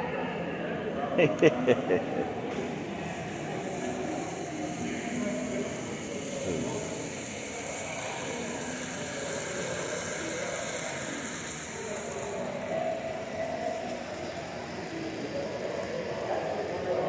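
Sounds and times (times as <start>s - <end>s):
constant hum: 0.0s - 17.0s
indistinct voices: 0.0s - 17.0s
model trains running: 0.0s - 17.0s.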